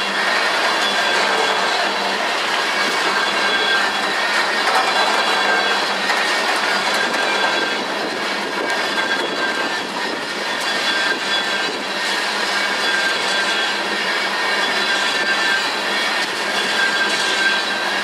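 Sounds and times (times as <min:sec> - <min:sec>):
train wheels rumbling on rail: 0:00.0 - 0:18.0
faint wheel squeal: 0:00.1 - 0:08.0, 0:08.7 - 0:18.0.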